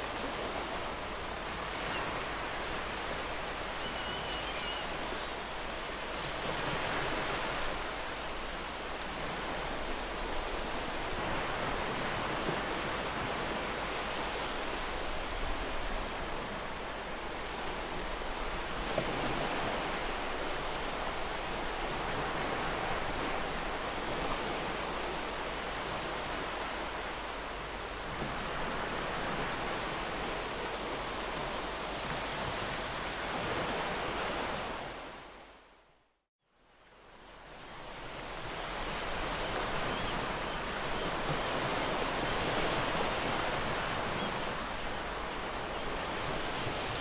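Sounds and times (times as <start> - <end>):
ocean waves breaking on shore: 0.0 - 35.9, 36.6 - 47.0.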